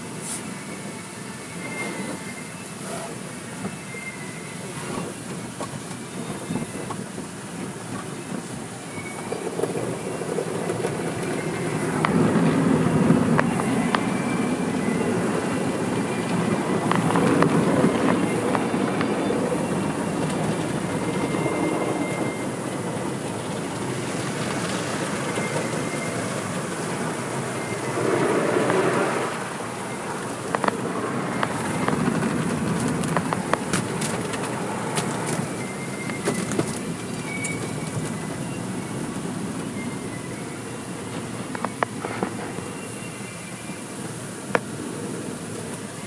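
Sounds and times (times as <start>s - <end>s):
water spraying on car: 0.0s - 46.0s.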